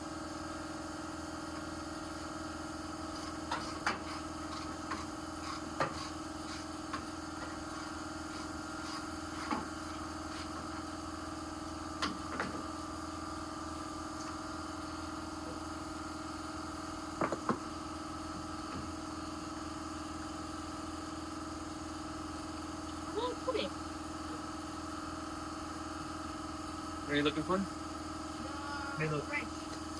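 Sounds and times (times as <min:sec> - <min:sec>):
steady mechanical hum: 0:00.0 - 0:29.9.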